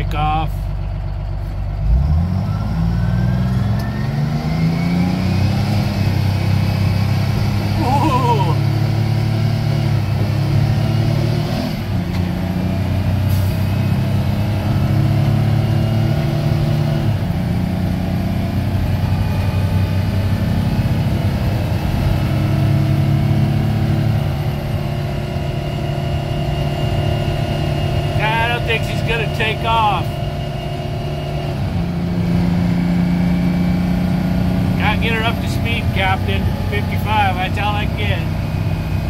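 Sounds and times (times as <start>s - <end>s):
truck engine running: 0.0s - 39.0s.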